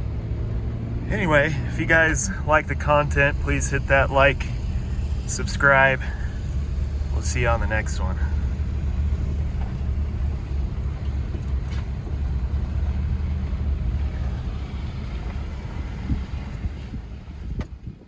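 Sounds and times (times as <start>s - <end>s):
vehicle driving low rumble: 0.0s - 18.0s.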